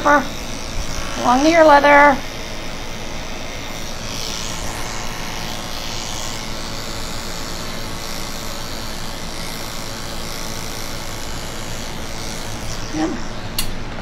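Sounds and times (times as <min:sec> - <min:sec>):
electric clippers motor hum: 0:00.0 - 0:14.0.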